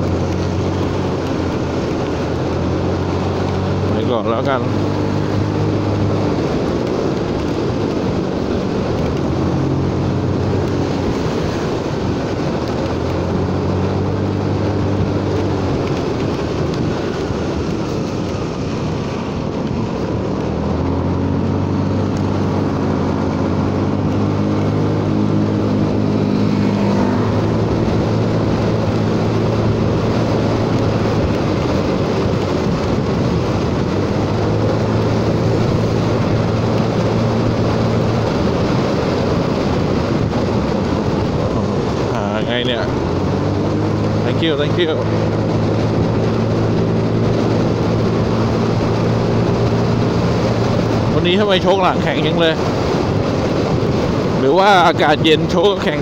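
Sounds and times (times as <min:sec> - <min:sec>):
scooter engine running: 0:00.0 - 0:56.0
wind and tyres on wet road: 0:00.0 - 0:56.0.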